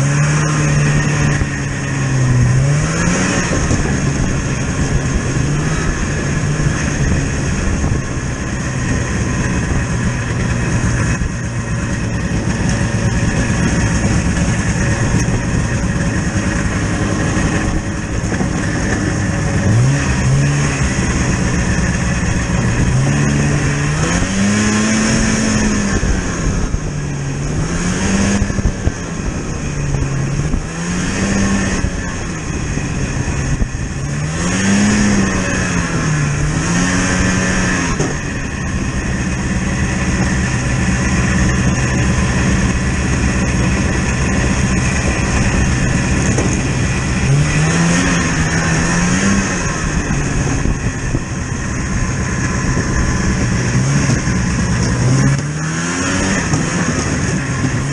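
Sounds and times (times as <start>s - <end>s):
vehicle engine revving: 0.0s - 57.9s.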